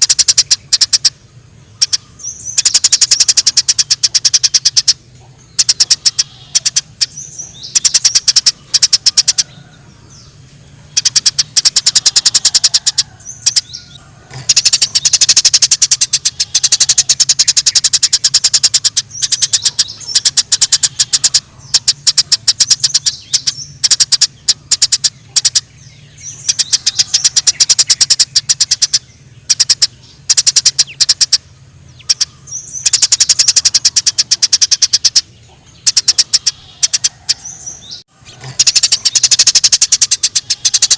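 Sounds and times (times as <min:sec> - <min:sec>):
faint low hum: 0:00.0 - 0:40.9
sparrows chattering: 0:00.0 - 0:40.9.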